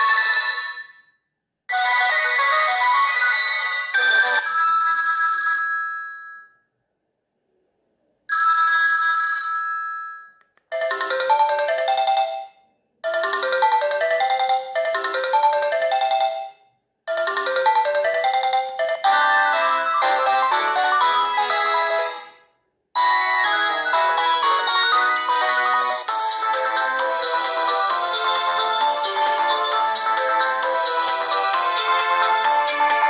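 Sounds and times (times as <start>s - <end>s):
ringtone melody: 0.0s - 1.1s, 1.7s - 5.3s, 10.7s - 33.0s
phone chime ringtone: 0.0s - 6.7s, 8.3s - 22.4s, 23.0s - 33.0s.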